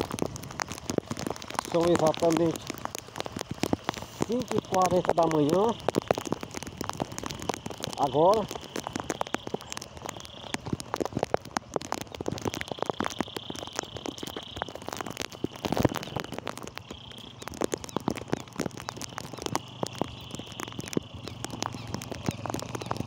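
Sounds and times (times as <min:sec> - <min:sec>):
rain on wet ground: 0:00.0 - 0:23.0.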